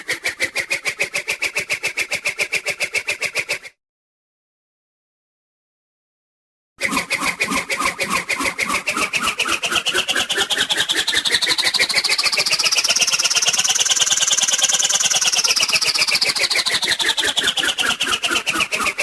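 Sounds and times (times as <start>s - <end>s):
cartoon engine-like whirr: 0.0s - 3.8s, 6.8s - 19.0s.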